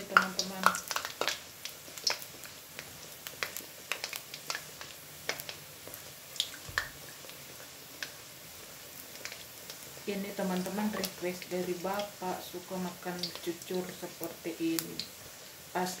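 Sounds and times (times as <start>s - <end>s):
faint frying sizzle: 0.0s - 16.0s
hot oil popping and crackling: 0.0s - 16.0s.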